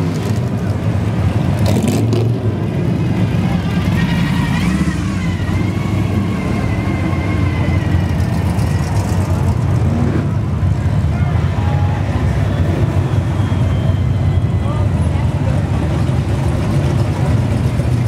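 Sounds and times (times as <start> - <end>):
car engines rumbling past: 0.0 - 18.0.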